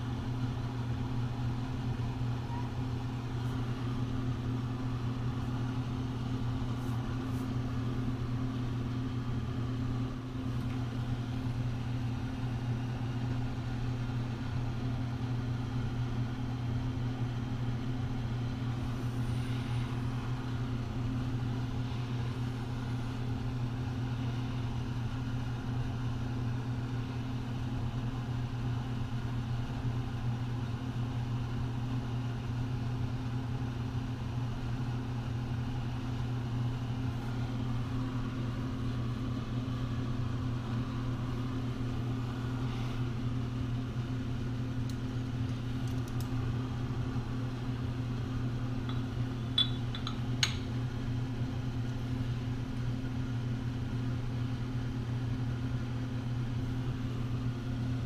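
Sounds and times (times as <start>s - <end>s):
low motor hum: 0.0s - 30.4s, 34.0s - 58.0s.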